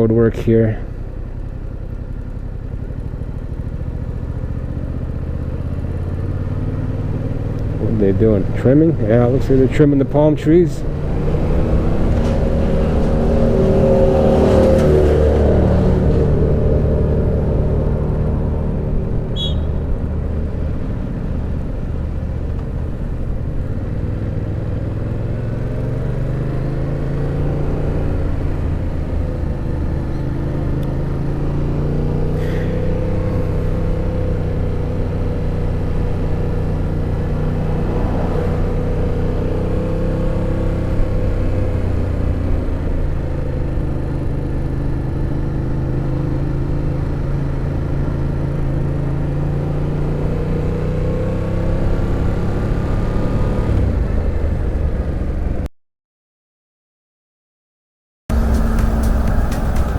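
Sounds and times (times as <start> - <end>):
motorcycle engine running: 0.0 - 55.6, 58.3 - 59.9.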